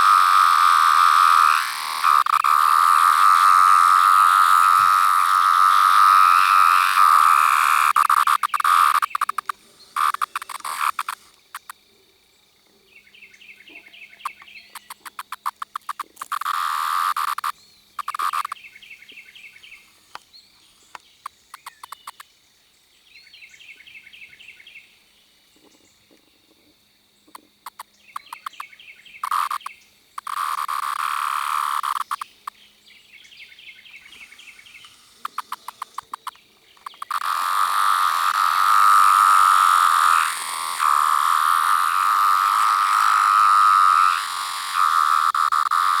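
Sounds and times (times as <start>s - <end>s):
cicada buzzing whine: 0.0s - 11.9s, 14.2s - 22.2s, 27.0s - 46.0s
cicada clicking and buzzing: 0.0s - 11.9s, 14.2s - 18.7s, 19.8s - 22.4s, 26.9s - 32.7s, 33.8s - 46.0s.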